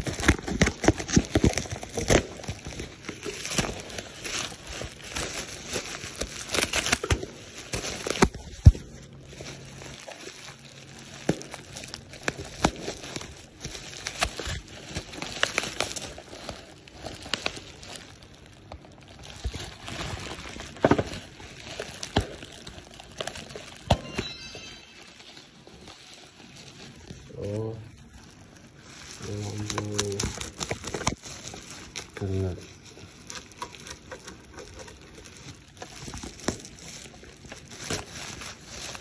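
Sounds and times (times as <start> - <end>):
plastic packaging crinkling: 0.0 - 39.0.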